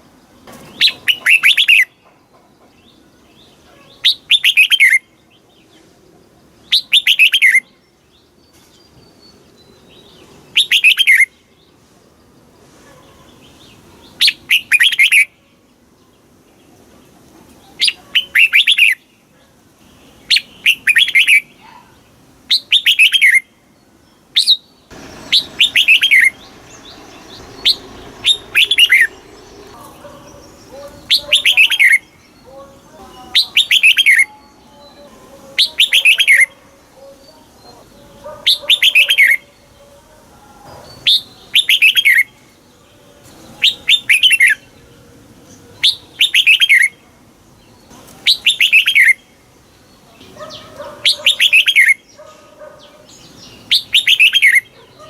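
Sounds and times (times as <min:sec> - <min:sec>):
bulbul singing whistled phrases: 0:00.7 - 0:02.2, 0:03.3 - 0:05.6, 0:06.6 - 0:11.6, 0:14.0 - 0:15.4, 0:17.7 - 0:19.1, 0:19.9 - 0:23.6, 0:24.4 - 0:40.1, 0:40.7 - 0:44.9, 0:45.5 - 0:47.0, 0:47.6 - 0:55.0.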